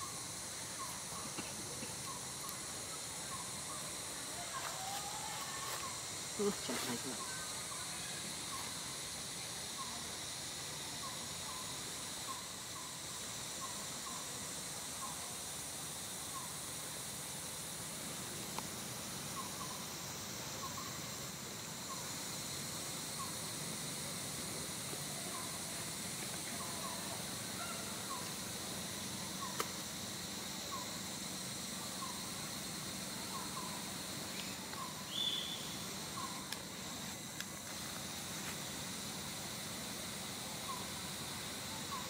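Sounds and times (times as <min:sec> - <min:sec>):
forest insects hissing: 0:00.0 - 0:42.0.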